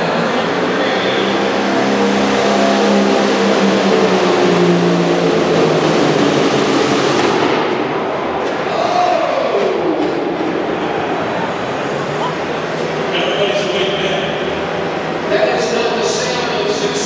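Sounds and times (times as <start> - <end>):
tractor diesel engine under load: 0.0 - 8.4, 9.8 - 17.0.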